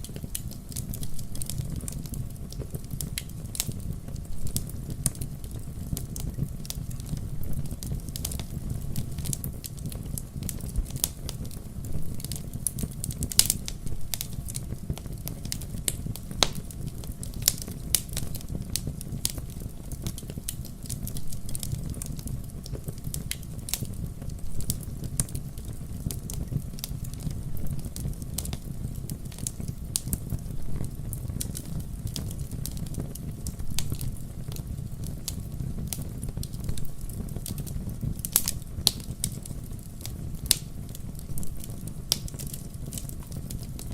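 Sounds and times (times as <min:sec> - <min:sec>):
firewood crackling and popping: 0:00.0 - 0:43.9
low fire rumble: 0:00.0 - 0:43.9.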